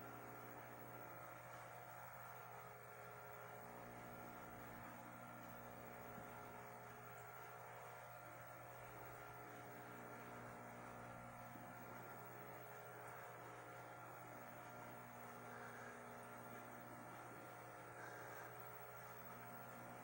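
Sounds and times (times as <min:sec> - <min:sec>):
aquarium filter motor hum: 0:00.0 - 0:20.0.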